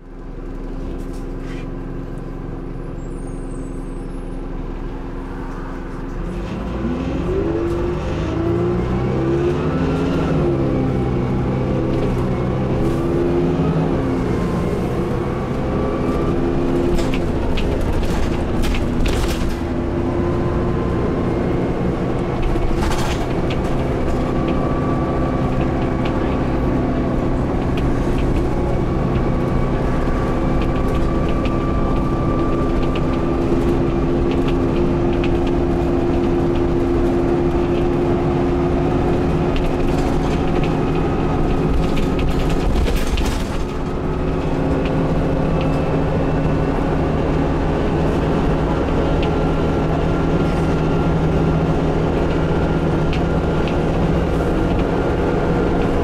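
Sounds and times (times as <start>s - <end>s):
bus engine revving: 0.0s - 56.0s
bus body rattles and knocks: 10.0s - 56.0s.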